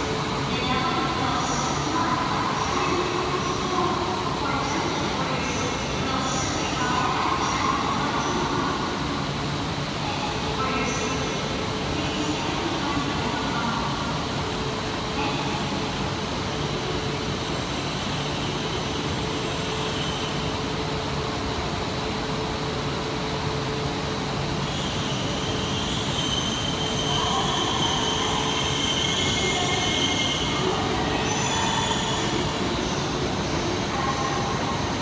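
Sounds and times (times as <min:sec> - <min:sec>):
train rumbling in tunnel: 0:00.0 - 0:35.0.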